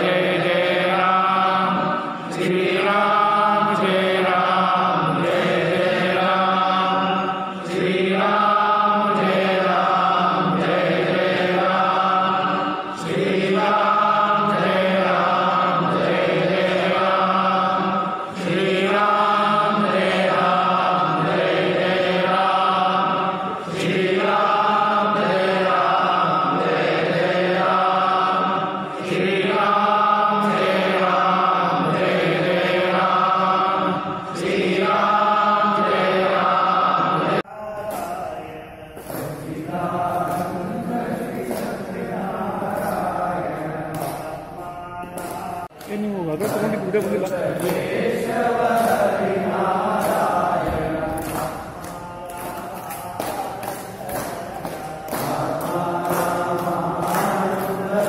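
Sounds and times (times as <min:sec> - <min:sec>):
men chanting together: 0:00.0 - 0:58.0.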